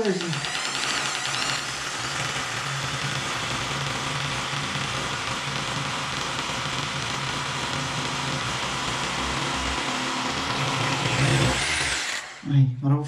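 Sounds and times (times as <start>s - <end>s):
electric drill boring into tile: 0.0s - 12.5s.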